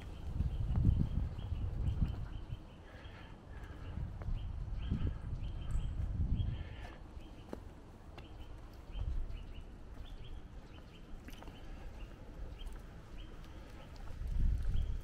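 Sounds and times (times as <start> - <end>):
wind rumble on microphone: 0.0 - 6.9, 8.3 - 15.0
footsteps on stone paving: 0.0 - 15.0.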